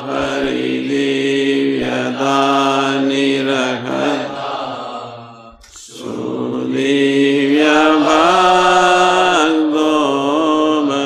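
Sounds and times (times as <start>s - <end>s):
hymn sung in long notes: 0.0s - 11.0s.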